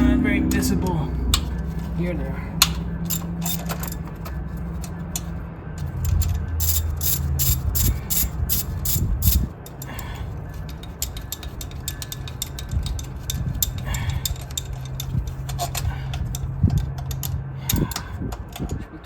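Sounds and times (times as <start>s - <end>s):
steady low hum: 0.0s - 19.0s
ratchet wrench clicking: 2.6s - 18.8s.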